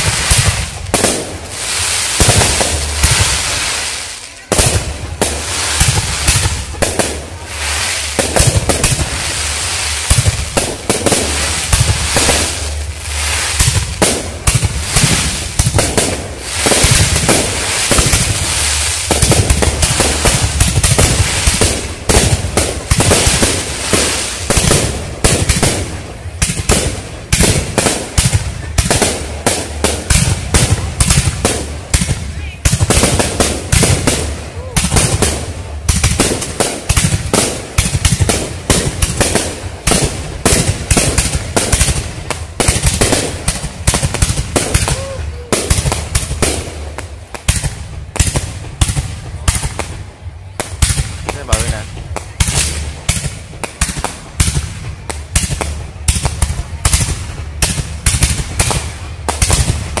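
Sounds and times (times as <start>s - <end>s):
fireworks bangs and crackles: 0.0s - 60.0s.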